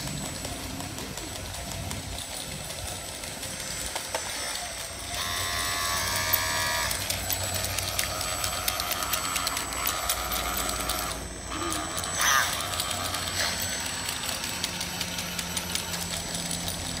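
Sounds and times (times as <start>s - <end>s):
rapid ticking of metal tracks: 0.0s - 17.0s
small motors whirring: 0.0s - 17.0s.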